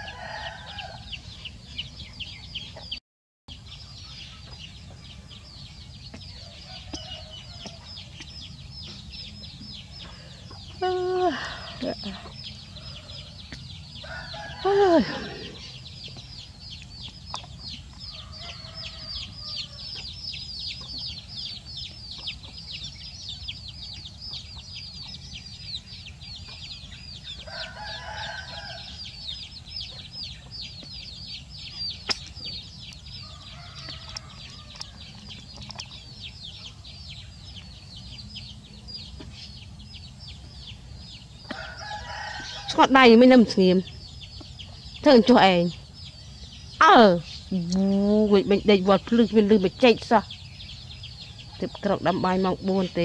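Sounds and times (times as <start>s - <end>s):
chickens chirping and clucking: 0.0s - 53.0s.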